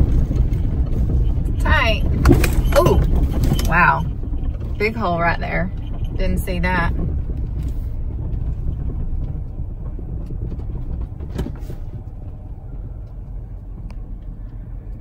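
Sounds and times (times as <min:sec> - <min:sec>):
pickup truck rumble inside cab: 0:00.0 - 0:15.0.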